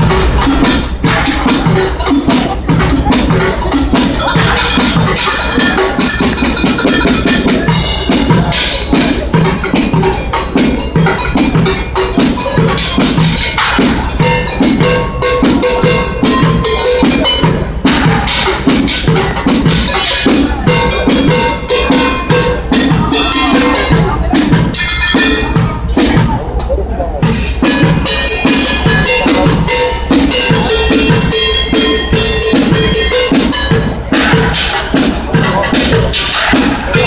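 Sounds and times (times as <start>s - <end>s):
drumming on buckets and pots: 0.0s - 37.0s
metal pot ringing: 3.5s - 25.8s, 27.6s - 35.7s.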